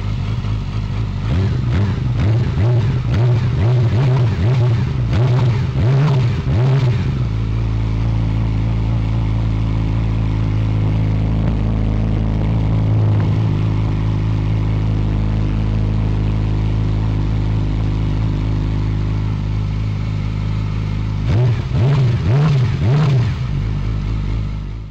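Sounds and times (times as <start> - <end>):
motorcycle engine idling: 0.0 - 24.9
motorcycle engine revving: 0.0 - 24.9.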